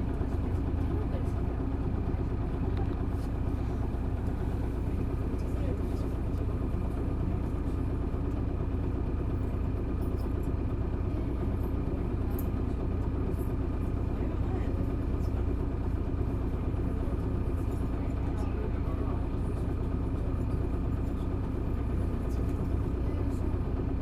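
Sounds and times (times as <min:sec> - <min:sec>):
bus engine running: 0:00.0 - 0:24.0.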